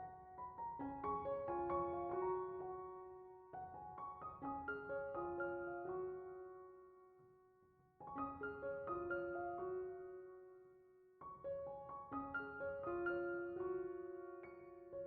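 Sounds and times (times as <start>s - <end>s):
piano music: 0.0s - 6.8s, 8.0s - 10.6s, 11.2s - 15.0s.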